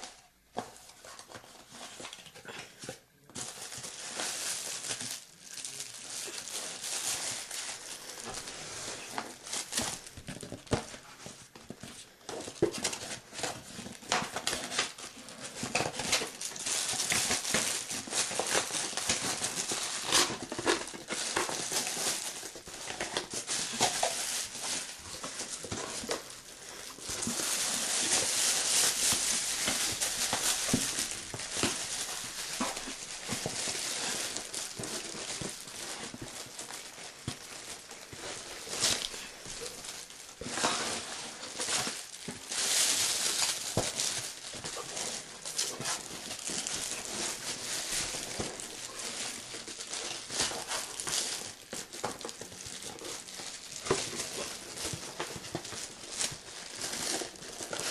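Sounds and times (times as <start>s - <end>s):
packaging rustling and crinkling: 0.0s - 57.9s.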